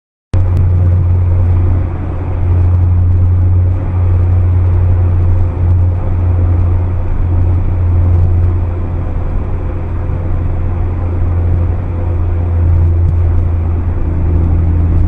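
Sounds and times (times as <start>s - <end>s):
car engine and road noise: 0.3s - 15.0s.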